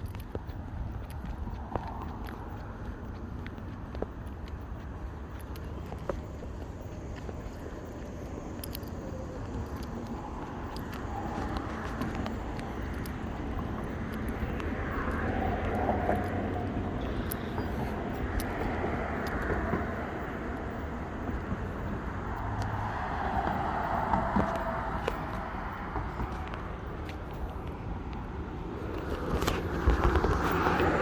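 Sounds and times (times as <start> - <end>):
steady low traffic rumble: 0.0 - 31.0
vehicles passing by: 0.0 - 31.0.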